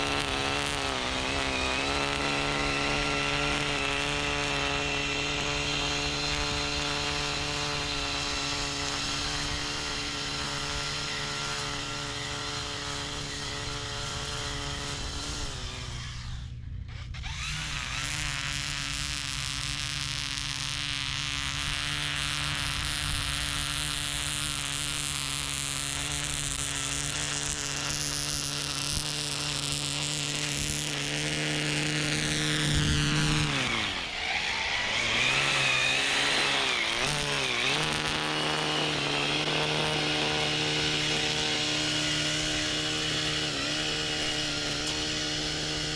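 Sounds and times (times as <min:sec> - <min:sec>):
electric mower motor whine: 0:00.0 - 0:45.9.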